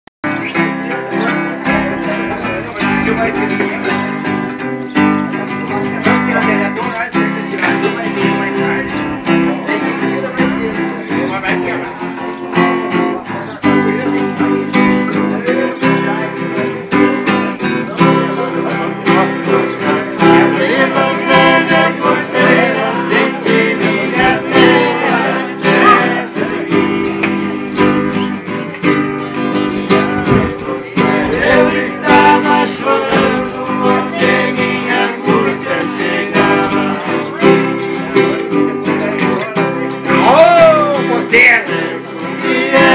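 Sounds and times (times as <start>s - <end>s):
men singing: 0.2s - 28.6s, 29.4s - 42.9s
acoustic guitars strummed and picked: 0.2s - 42.9s.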